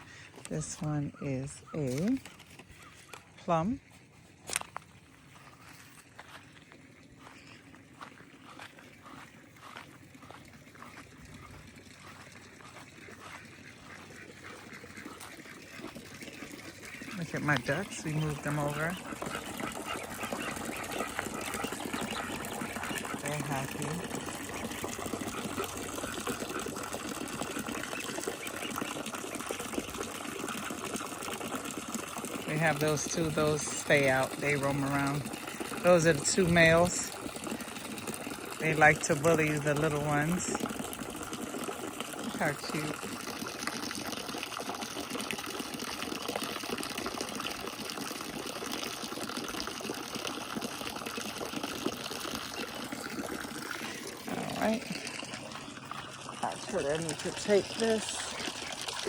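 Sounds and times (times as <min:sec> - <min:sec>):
ducks splashing in water: 0:00.0 - 0:59.0.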